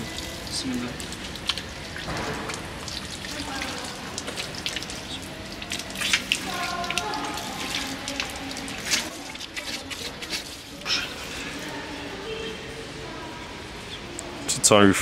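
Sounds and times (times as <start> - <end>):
water running from a tap: 0.0 - 12.1
water splashing during washing: 0.0 - 12.2.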